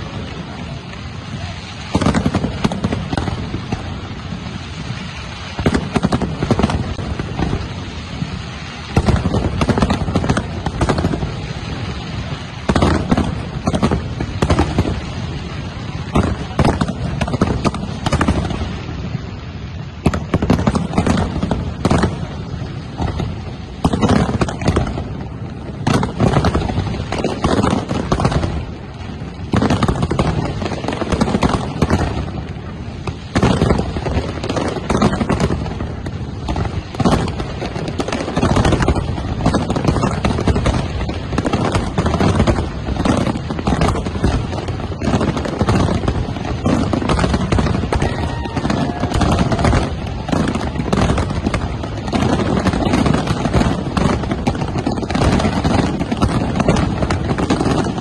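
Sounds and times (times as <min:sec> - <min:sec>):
din of small firework bursts: 0:00.0 - 0:58.0
fireworks bangs: 0:00.0 - 0:58.0.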